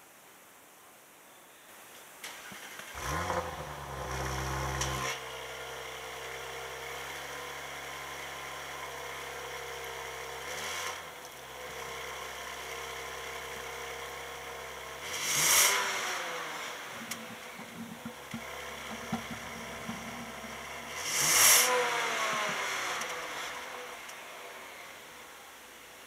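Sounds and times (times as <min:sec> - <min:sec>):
engine revving: 0:02.9 - 0:25.1
car engine idling: 0:02.9 - 0:26.0.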